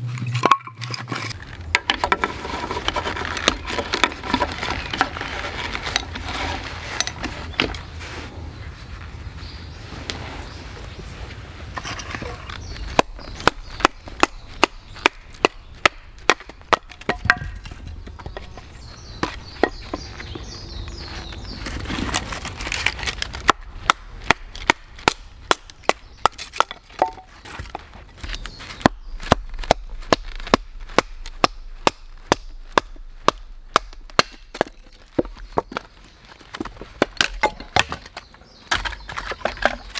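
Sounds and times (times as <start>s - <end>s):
rustling: 0.0s - 39.9s.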